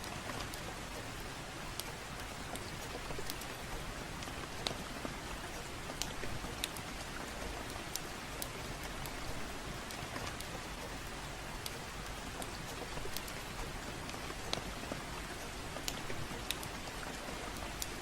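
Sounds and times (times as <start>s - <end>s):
gentle rain: 0.0s - 18.0s
wood fire crackling: 0.0s - 18.0s.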